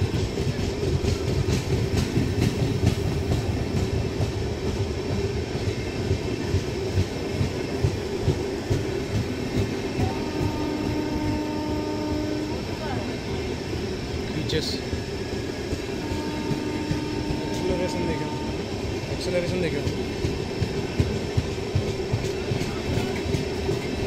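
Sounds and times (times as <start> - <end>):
low train rumble: 0.0 - 24.0
train wheels clickety-clack: 0.0 - 24.0.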